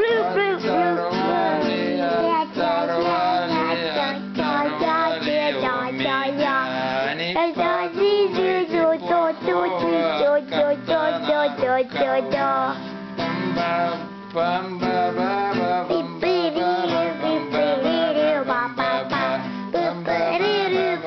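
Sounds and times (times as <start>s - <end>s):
acoustic guitar: 0.0s - 21.0s
person singing: 0.0s - 21.0s.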